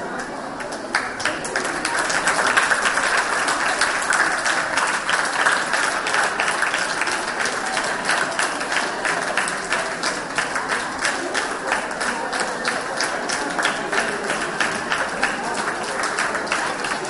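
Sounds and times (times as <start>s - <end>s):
children clapping: 0.0s - 17.0s.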